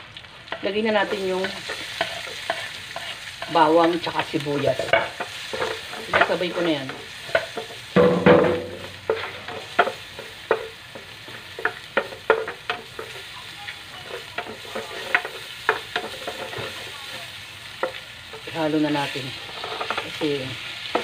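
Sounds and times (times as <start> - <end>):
food sizzling in a frying pan: 0.0 - 21.0
spatula scraping a pan: 0.5 - 21.0.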